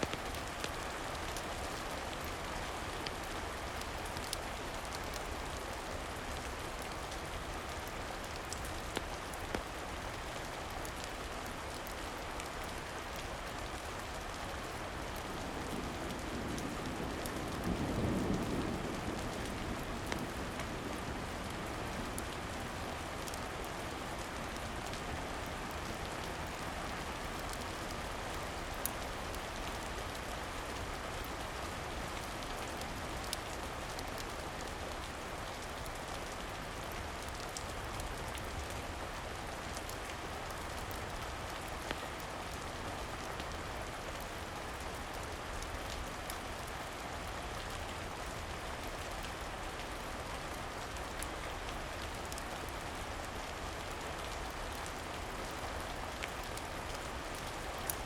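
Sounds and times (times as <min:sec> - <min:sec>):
rain falling on a surface: 0:00.0 - 0:58.0.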